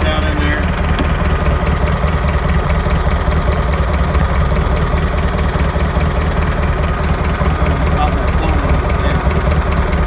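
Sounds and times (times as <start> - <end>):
forklift engine idling: 0.0 - 10.0
fast high-pitched ticking: 1.6 - 10.0.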